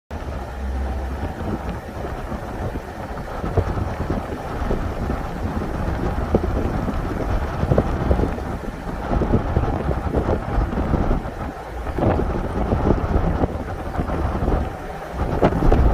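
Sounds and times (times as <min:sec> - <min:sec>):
road noise of car: 0:00.1 - 0:15.9
wind buffeting microphone: 0:00.1 - 0:15.9.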